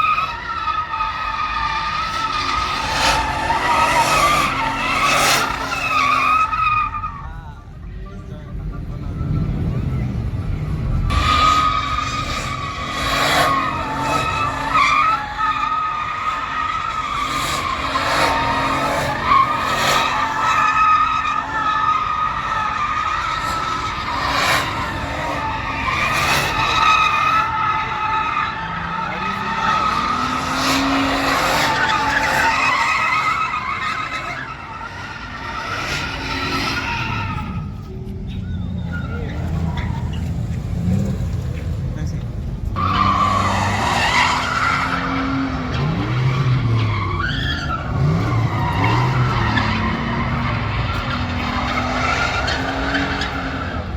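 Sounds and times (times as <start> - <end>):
tires squealing: 0.0 - 53.9
engine revving: 8.6 - 37.9, 38.8 - 53.9.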